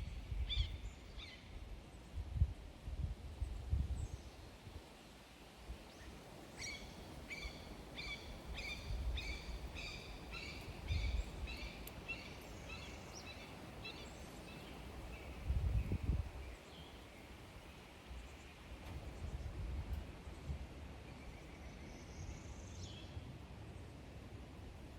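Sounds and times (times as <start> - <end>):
low wind rumble: 0.0 - 24.9.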